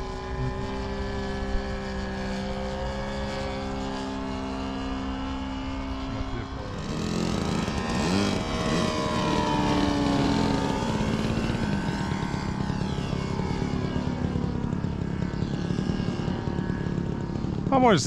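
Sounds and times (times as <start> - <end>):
model plane engine running: 0.0 - 18.0.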